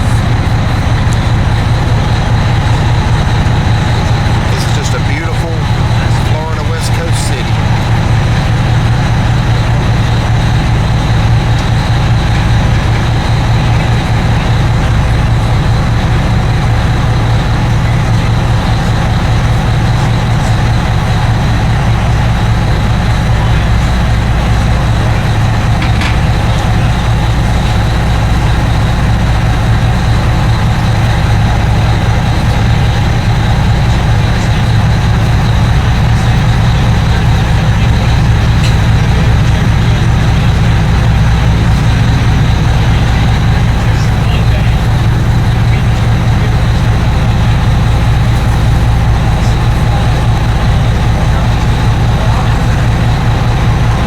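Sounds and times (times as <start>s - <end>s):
boat engines droning: 0.0s - 54.0s.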